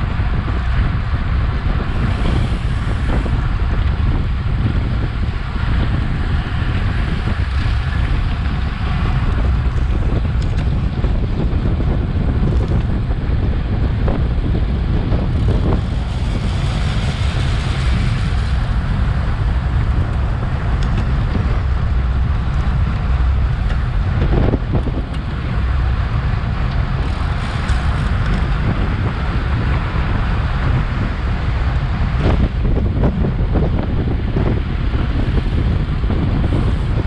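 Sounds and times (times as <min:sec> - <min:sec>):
tyres rumbling on road: 0:00.0 - 0:37.0
wind buffeting microphone: 0:00.0 - 0:37.0.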